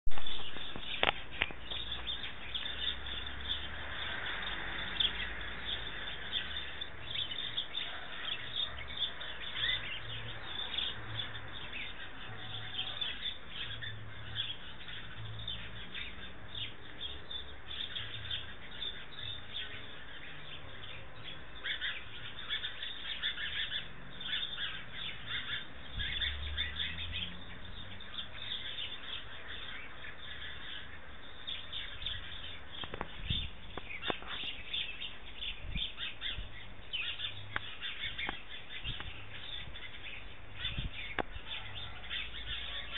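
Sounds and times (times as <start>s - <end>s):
wild birds chirping: 0.1s - 42.9s.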